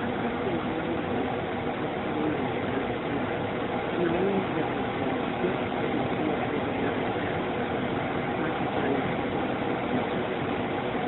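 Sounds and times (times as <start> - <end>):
steady hiss and hum: 0.0 - 11.0.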